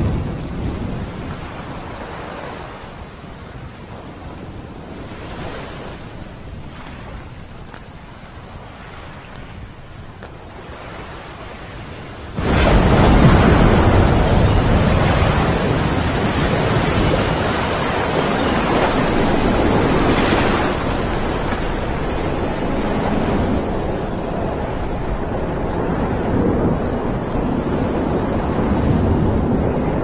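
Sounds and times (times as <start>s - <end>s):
rush of wind-driven noise: 0.0s - 30.0s.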